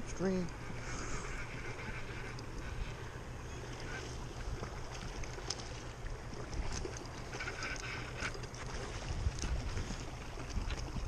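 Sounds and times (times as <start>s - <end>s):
shallow stream flowing: 0.0s - 11.0s
wind rumbling on microphone: 0.0s - 11.0s.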